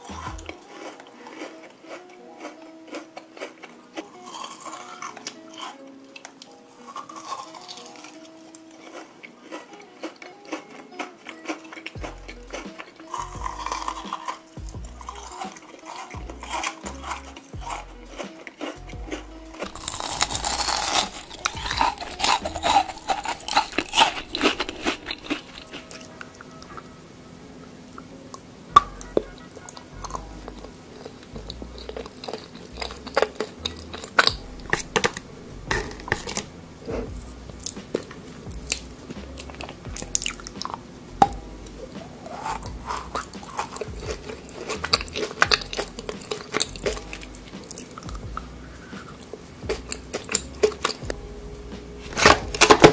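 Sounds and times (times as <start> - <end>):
crunching and chewing: 0.0 - 27.0, 27.6 - 52.9
background music with steady beat: 0.0 - 52.9.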